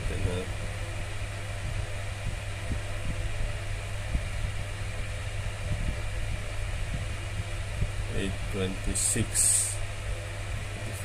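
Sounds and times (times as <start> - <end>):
steady low hum with hiss: 0.0 - 11.0.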